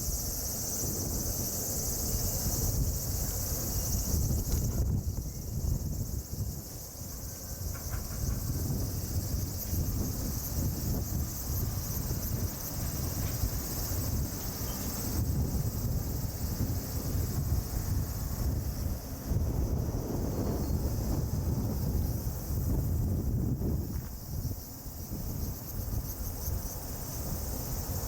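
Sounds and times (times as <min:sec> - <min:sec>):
high-pitched insect chorus: 0:00.0 - 0:28.0
wind rumbling on microphone: 0:00.0 - 0:28.0.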